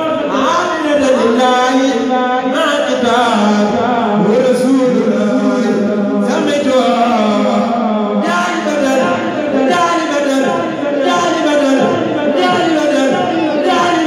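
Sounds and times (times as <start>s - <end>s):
man chanting through a microphone: 0.0s - 14.0s.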